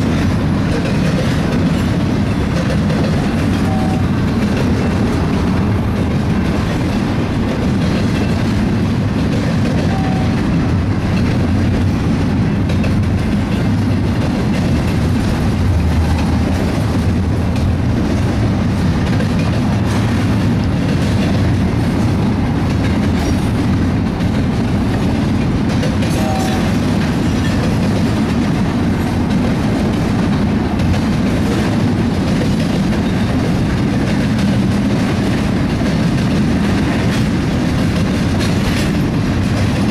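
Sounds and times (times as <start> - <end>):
train wheels rumbling and clattering: 0.0 - 39.9.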